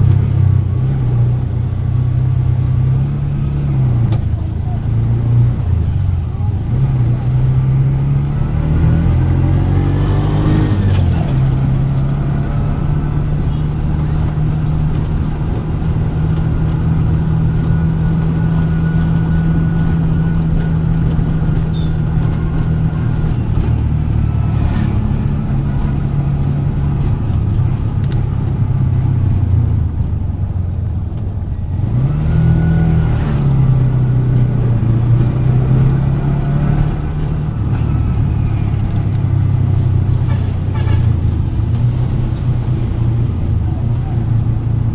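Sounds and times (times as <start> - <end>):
road and wind noise: 0.0 - 44.9
vehicle engine running: 0.0 - 44.9.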